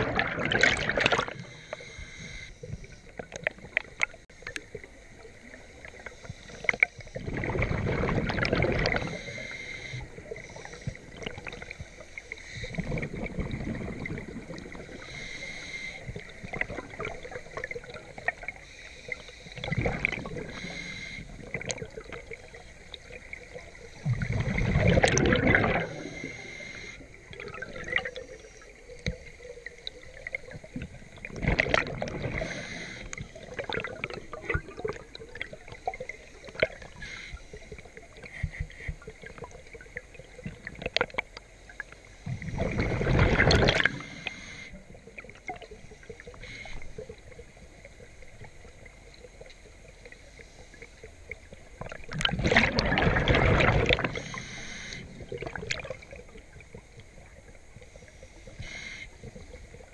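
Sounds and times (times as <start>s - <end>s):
underwater bubbles bursting: 0.0s - 1.8s, 2.6s - 11.9s, 12.6s - 15.1s, 16.0s - 18.6s, 19.5s - 37.0s, 37.6s - 41.4s, 42.3s - 49.8s, 51.3s - 57.6s
faint hiss and ticks: 1.4s - 7.2s, 8.4s - 13.4s, 14.1s - 25.2s, 25.8s - 43.0s, 43.7s - 52.3s, 54.0s - 55.3s, 56.1s - 59.9s.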